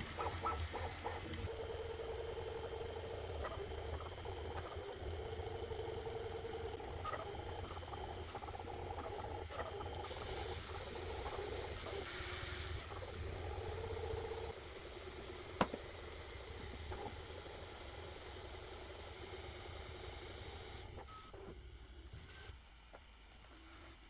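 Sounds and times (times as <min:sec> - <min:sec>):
printer fans humming: 0:00.0 - 0:21.0.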